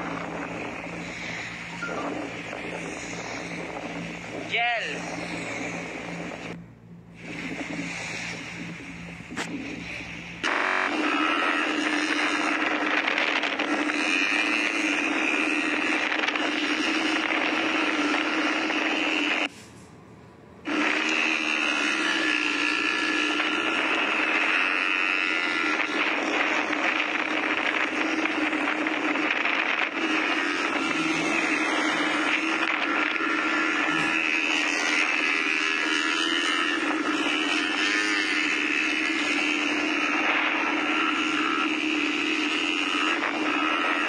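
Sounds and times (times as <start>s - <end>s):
quad bike engine running: 0.0s - 19.5s, 20.6s - 44.0s.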